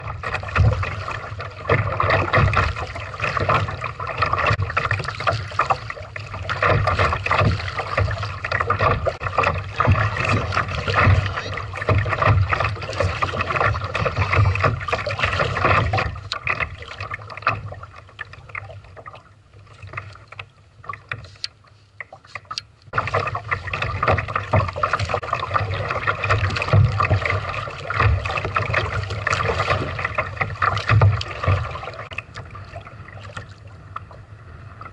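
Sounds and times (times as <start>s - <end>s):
paddle strokes splashing: 0.0s - 34.9s
water washing against hull: 0.0s - 34.9s.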